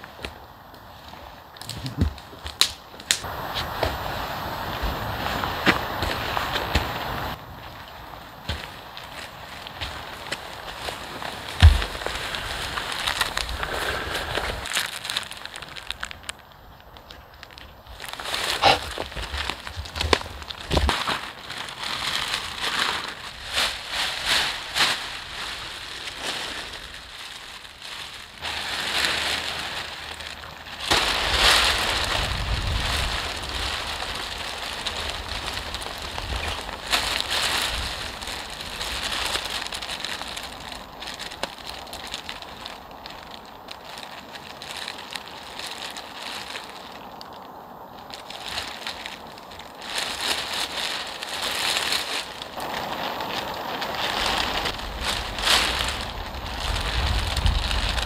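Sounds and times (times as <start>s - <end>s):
plastic sheeting crinkling: 0.0s - 58.0s.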